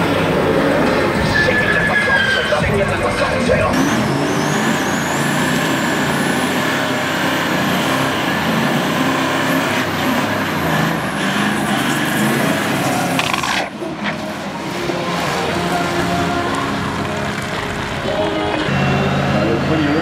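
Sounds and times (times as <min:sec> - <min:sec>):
diesel engine revving hard: 0:00.0 - 0:20.0
tyres spinning: 0:00.0 - 0:20.0.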